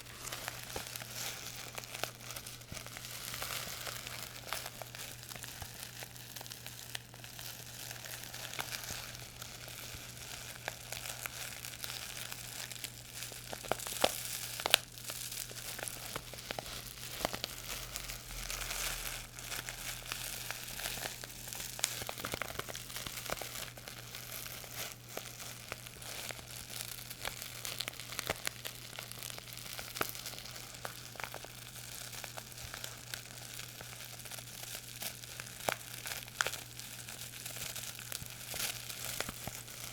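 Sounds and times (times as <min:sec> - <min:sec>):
crinkly material crackling: 0:00.0 - 0:39.9
low electrical hum: 0:00.0 - 0:39.9.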